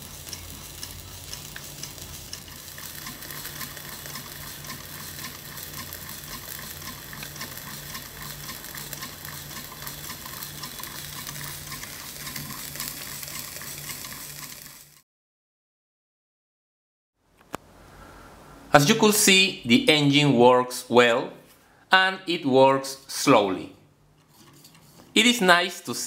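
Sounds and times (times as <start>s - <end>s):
constant hiss: 0.0s - 15.0s, 17.3s - 26.0s.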